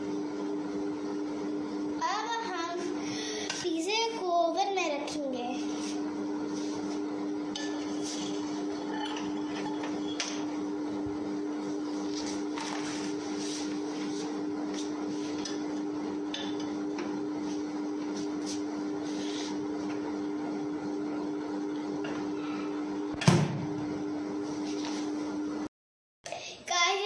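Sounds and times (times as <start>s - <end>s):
oven humming: 0.0s - 25.7s.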